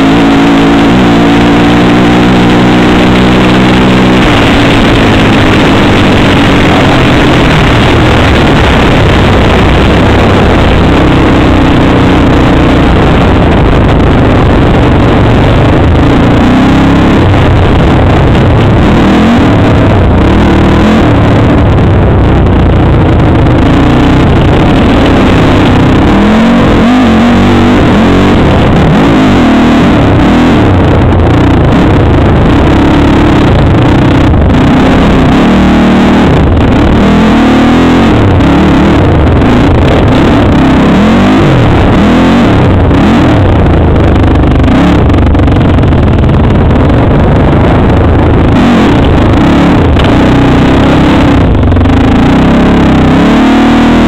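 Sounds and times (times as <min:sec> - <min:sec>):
quad engine revving: 0:00.0 - 0:54.0
wind and tyre noise: 0:00.0 - 0:54.0.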